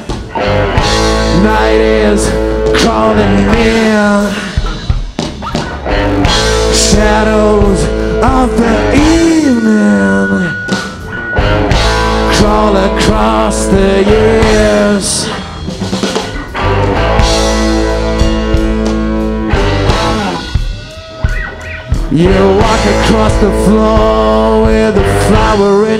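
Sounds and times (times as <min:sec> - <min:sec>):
bass guitar: 0:00.0 - 0:25.9
drum kit with cymbals: 0:00.0 - 0:25.9
electric guitar: 0:00.0 - 0:25.9
sliding lead melody: 0:00.0 - 0:25.9.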